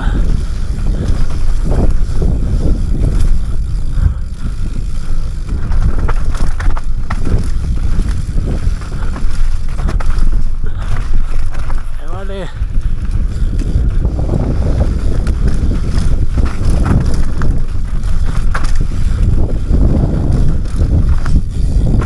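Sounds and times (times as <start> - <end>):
bike frame rattling: 0.0 - 22.0
bike knocking on bumps: 0.0 - 22.0
tyres rumbling on dirt: 0.0 - 22.0
wind buffeting microphone: 0.0 - 22.0.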